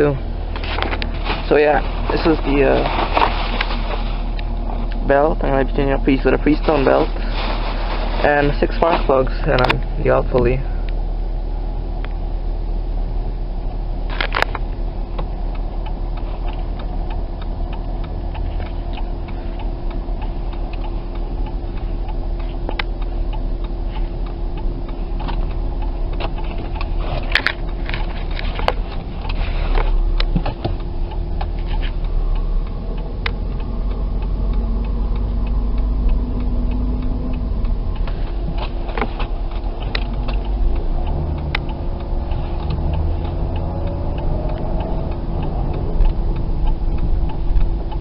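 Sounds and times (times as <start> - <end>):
car engine idling: 0.0 - 48.0
engine ticking: 0.0 - 48.0.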